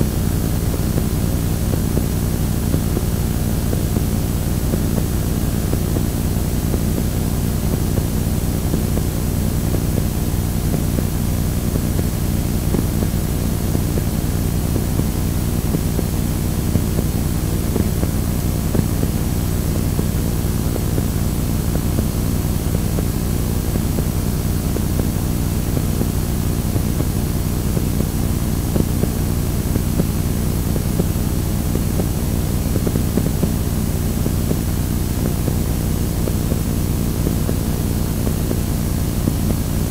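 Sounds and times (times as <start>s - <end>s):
faint steady hum: 0.0s - 39.9s
tape static noise: 0.0s - 39.9s.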